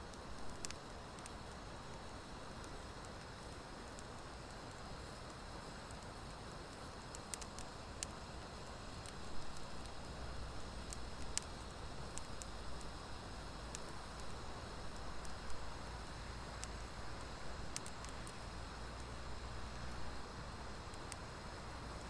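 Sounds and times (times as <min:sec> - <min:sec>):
fire crackles and pops: 0:00.0 - 0:22.0
wood fire hissing: 0:00.0 - 0:22.0.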